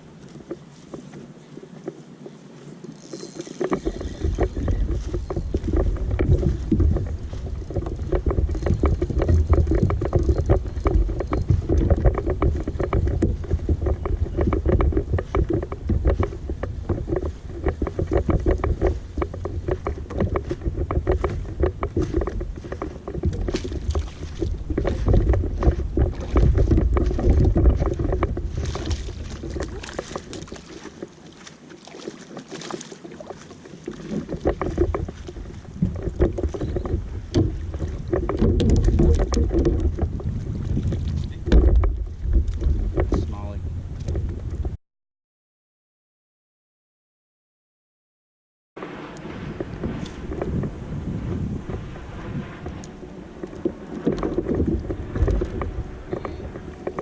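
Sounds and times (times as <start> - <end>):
boat engine low rumble: 0.0 - 44.8, 48.8 - 57.0
boat hull knocking on waves: 3.4 - 44.8, 48.8 - 57.0.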